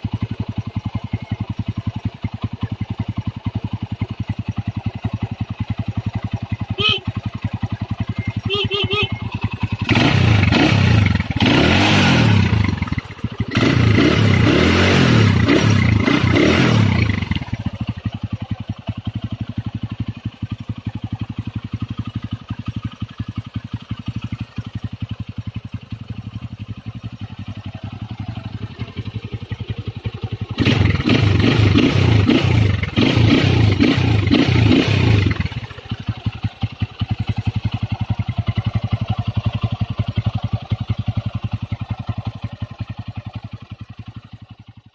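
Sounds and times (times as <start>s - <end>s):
motorcycle engine revving and idling: 0.0s - 44.9s.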